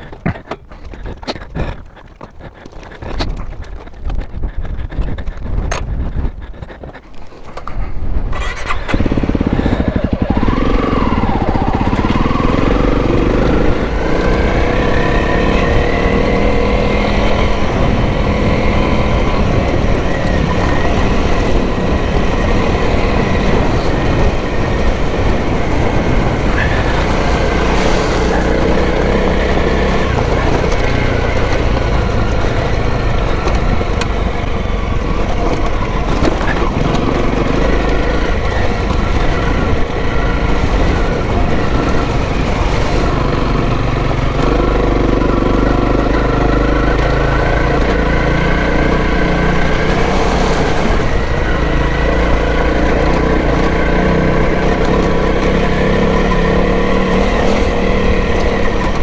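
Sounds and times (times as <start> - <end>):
motorbike revving: 0.0 - 59.0.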